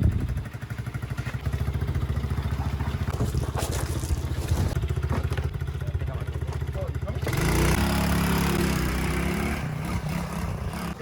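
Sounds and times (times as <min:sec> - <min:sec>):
engine idling: 0:00.0 - 0:09.0.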